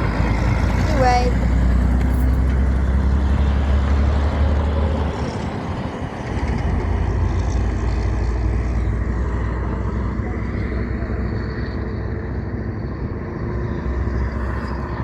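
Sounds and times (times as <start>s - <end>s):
heavy truck engine rumbling: 0.0s - 15.0s
road noise: 0.0s - 15.0s.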